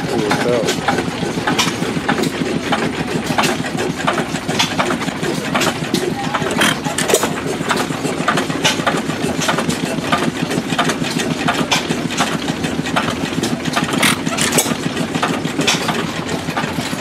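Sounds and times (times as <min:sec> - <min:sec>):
old gas engines popping and clattering: 0:00.0 - 0:17.0.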